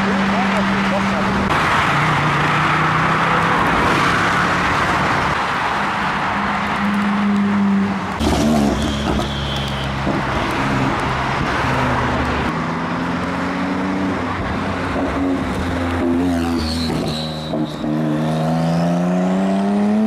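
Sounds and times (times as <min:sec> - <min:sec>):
cars passing on motorway: 0:00.0 - 0:20.0
tyre and road noise: 0:00.0 - 0:20.0.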